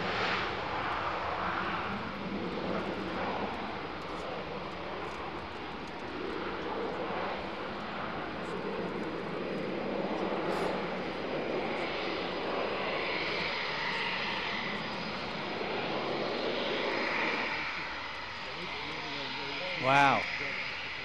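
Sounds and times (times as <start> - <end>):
high jet whine: 0.0 - 21.0
jet engine roar: 0.0 - 21.0.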